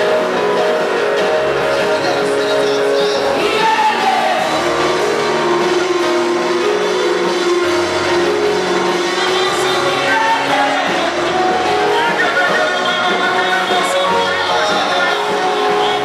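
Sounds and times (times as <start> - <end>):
instrumental accompaniment: 0.0 - 16.0
voices singing gospel song: 0.0 - 16.0.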